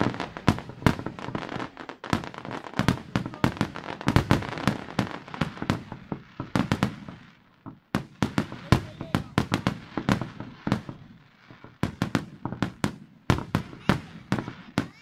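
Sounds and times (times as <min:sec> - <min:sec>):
fireworks fizzing: 0:00.0 - 0:15.0.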